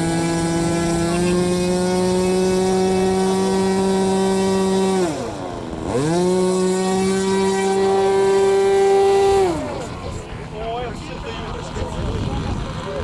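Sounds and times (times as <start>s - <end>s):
model airplane engine: 0.0s - 13.0s.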